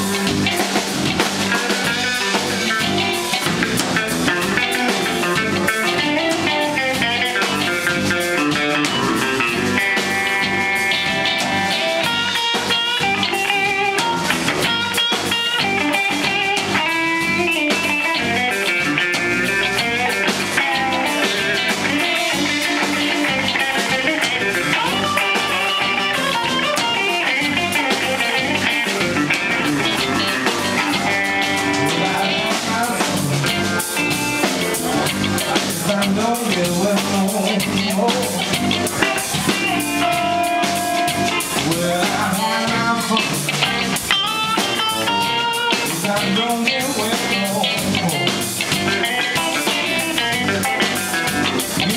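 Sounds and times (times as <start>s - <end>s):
blues band playing: 0.0s - 51.9s
lead electric guitar: 0.0s - 51.9s.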